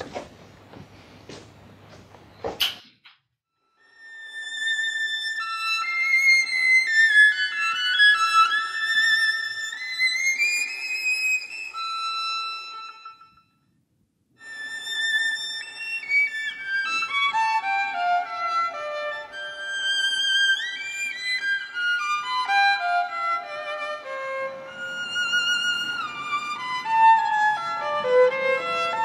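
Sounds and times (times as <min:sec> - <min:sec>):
violin melody: 0:03.8 - 0:13.6, 0:14.4 - 0:29.0.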